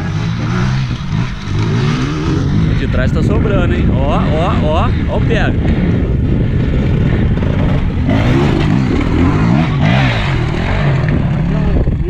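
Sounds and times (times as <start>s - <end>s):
dirt bikes revving: 0.0s - 12.0s.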